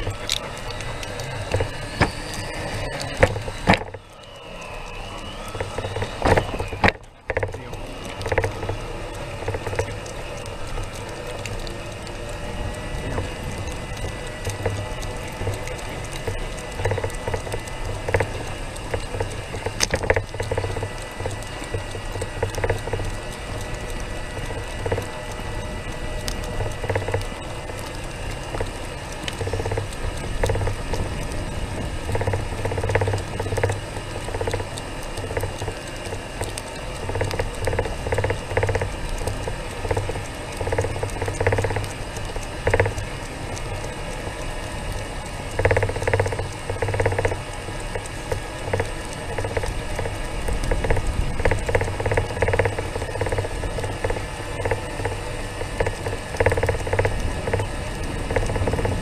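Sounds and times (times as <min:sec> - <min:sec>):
small vehicle rolling on concrete: 0:00.0 - 0:59.0.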